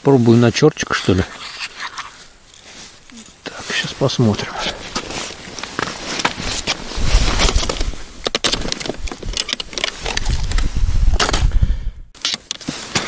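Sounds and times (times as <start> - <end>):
rustling: 0.1 - 10.9.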